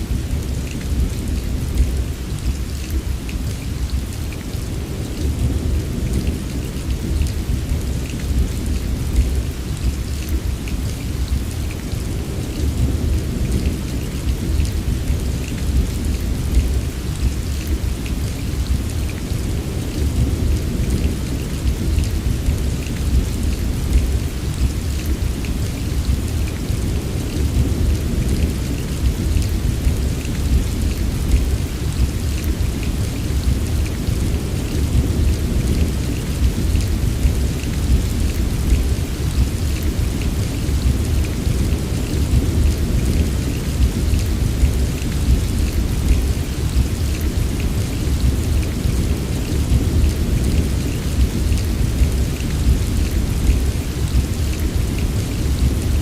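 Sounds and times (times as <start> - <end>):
heavy rain: 0.0 - 56.0
patter of raindrops: 0.0 - 56.0.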